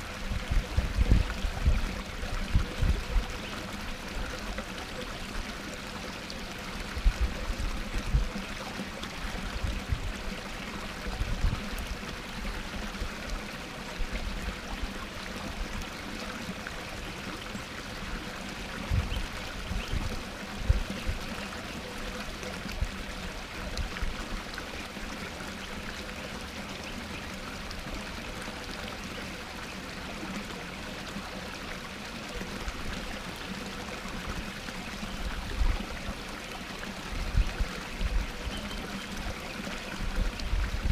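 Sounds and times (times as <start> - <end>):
waterfall splashing into pond: 0.0 - 40.9.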